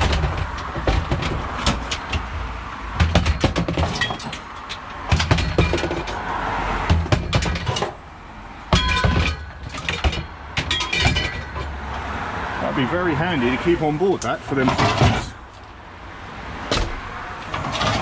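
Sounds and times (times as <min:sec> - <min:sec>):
scrap metal clanking and rattling: 0:00.0 - 0:12.2, 0:14.2 - 0:15.8, 0:16.6 - 0:18.0.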